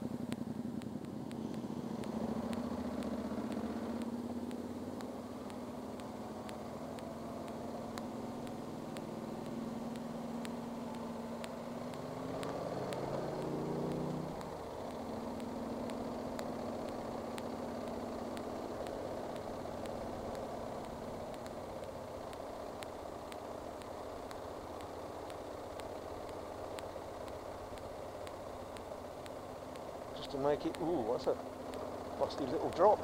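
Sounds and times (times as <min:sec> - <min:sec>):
faint clicks: 0:00.0 - 0:33.0
motorcycle engine running: 0:00.0 - 0:33.0
wind and road noise: 0:00.0 - 0:33.0.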